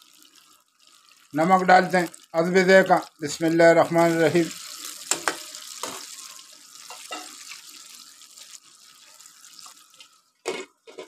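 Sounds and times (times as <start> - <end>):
meat simmering in a pan: 0.0 - 11.0.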